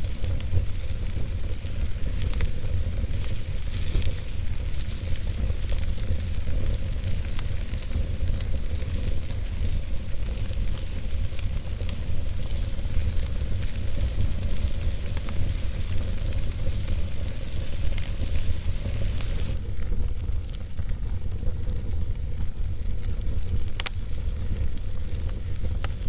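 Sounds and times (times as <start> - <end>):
fire burning with crackles: 0.0 - 26.0.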